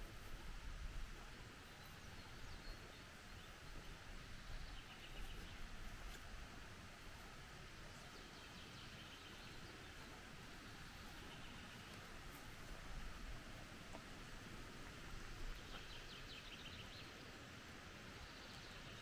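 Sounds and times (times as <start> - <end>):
low hiss and rumble: 0.0 - 19.0.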